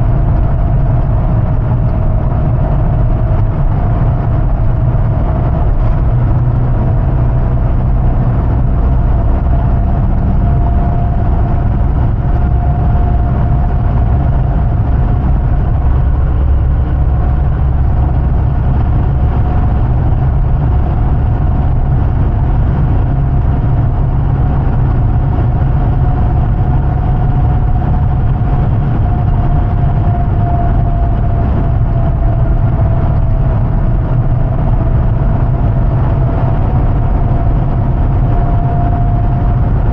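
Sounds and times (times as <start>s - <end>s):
drivetrain whine: 0.0s - 39.9s
vehicle engine deep rumble: 0.0s - 39.9s.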